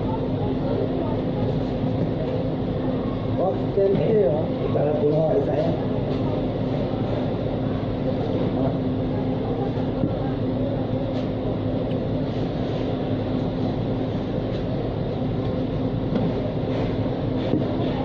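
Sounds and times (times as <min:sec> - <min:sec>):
machine drone: 0:00.0 - 0:18.0.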